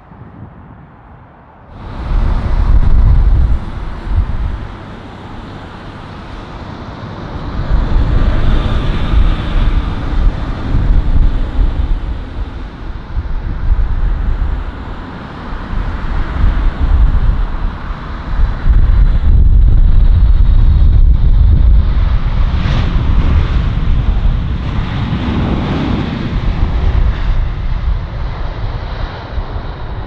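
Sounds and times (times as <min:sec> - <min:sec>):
high fan whine: 0:00.0 - 0:30.0
jet engine rumble: 0:00.0 - 0:30.0
wind buffeting microphone: 0:00.0 - 0:30.0.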